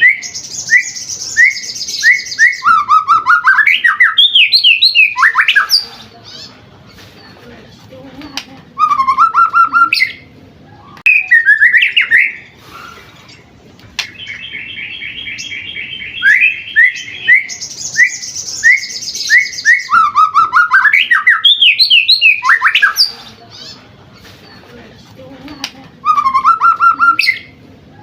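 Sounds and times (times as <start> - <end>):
bird singing varied song: 0.0 - 28.0.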